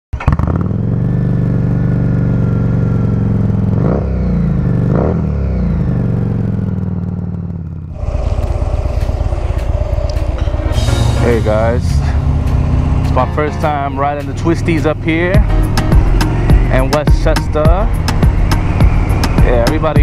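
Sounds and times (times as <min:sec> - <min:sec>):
motorcycle running on road: 0:00.1 - 0:20.0
motorcycle throttle blips: 0:00.2 - 0:10.7, 0:12.1 - 0:20.0
motorcycle engine idling: 0:00.2 - 0:20.0.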